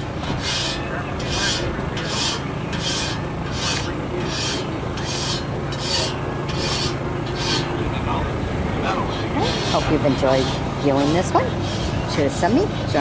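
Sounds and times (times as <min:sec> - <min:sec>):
low engine hum: 0:00.0 - 0:13.0
file rasping on saw blade: 0:00.3 - 0:07.7, 0:09.1 - 0:13.0.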